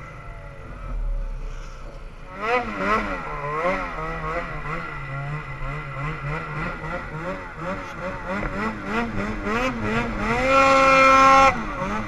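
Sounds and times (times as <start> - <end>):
snowmobile engine revving: 2.3 - 12.0.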